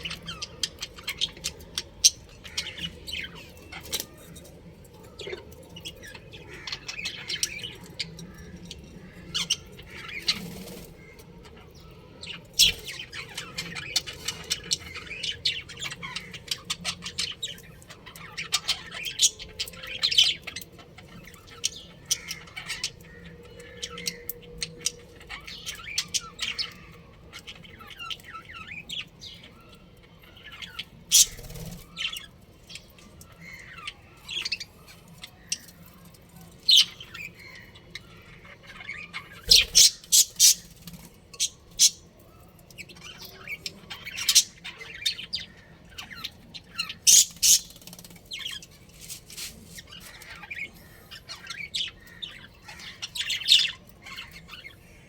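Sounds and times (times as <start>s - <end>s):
budgerigars chirping and squawking: 0.0s - 55.0s.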